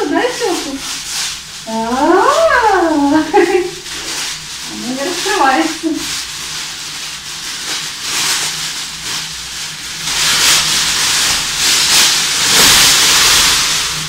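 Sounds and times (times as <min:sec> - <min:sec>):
foil blanket crinkling: 0:00.0 - 0:14.0.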